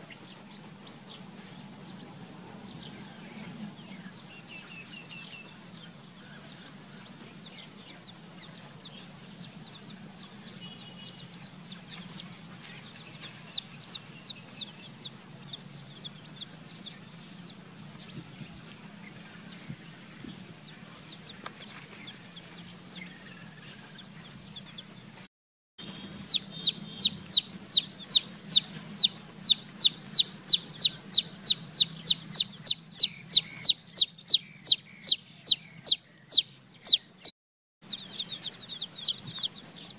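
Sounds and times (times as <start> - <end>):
baby chicks peeping: 0.0 - 25.2, 25.8 - 39.9.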